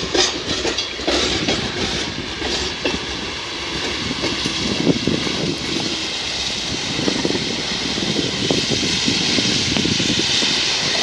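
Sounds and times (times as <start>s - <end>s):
steel wheels rolling on track: 0.0s - 11.0s.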